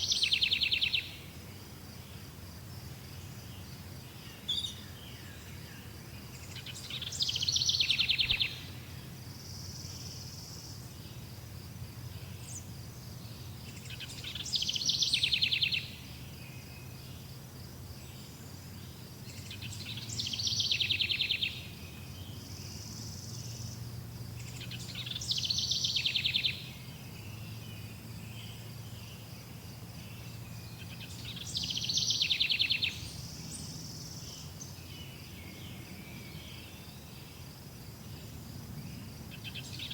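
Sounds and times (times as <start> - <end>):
songbird song with falling trill: 0.0 - 39.9.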